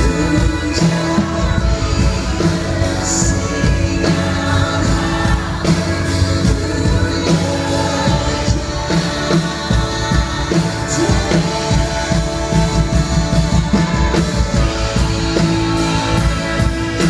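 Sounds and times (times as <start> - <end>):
live band playing: 0.0 - 17.0
voices singing along: 0.0 - 17.0.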